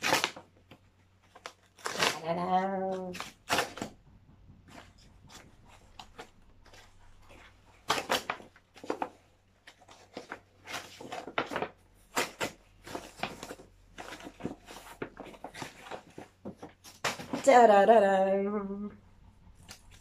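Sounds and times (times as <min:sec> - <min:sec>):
wrapping paper rustling and crinkling: 0:00.0 - 0:04.0, 0:04.6 - 0:17.5.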